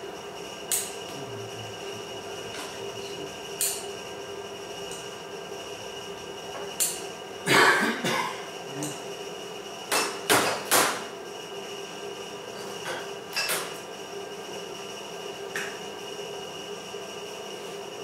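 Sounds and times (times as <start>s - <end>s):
mechanical hum with faint whine: 0.0s - 18.0s.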